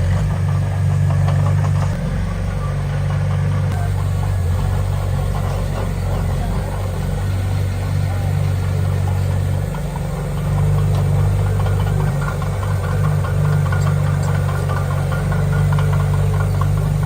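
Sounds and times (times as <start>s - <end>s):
heavy machinery diesel engine droning: 0.0s - 17.0s.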